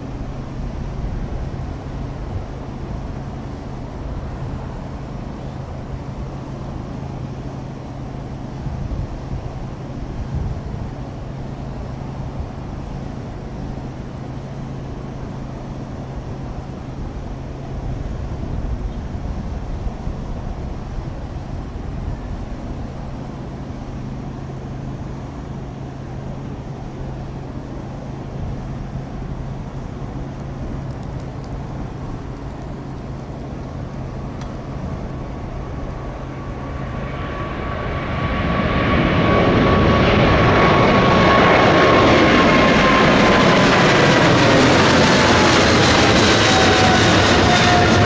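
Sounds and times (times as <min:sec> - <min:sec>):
jet airliner engines passing: 0:00.0 - 0:48.0
low background rumble and hum: 0:00.0 - 0:48.0.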